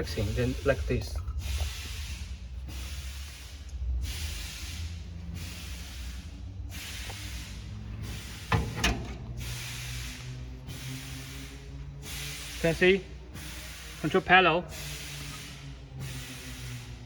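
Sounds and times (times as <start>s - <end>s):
compressed air hissing in bursts: 0.0s - 17.0s
steady machine hum: 0.0s - 17.0s.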